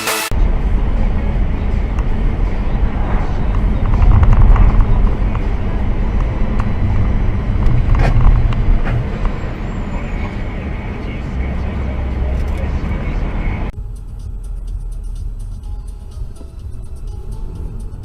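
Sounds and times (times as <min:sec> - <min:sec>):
car engine and road rumble: 0:00.3 - 0:18.0.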